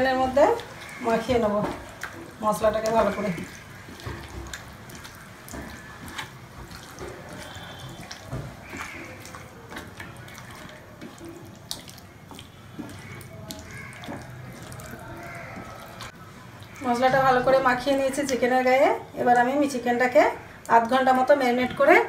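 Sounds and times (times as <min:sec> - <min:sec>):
hands squelching wet marinade: 0:00.0 - 0:22.0.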